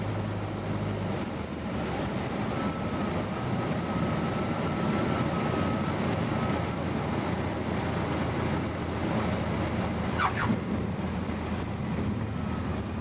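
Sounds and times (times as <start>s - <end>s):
airplane engine and propeller: 0.0s - 13.0s
wind noise: 0.0s - 13.0s.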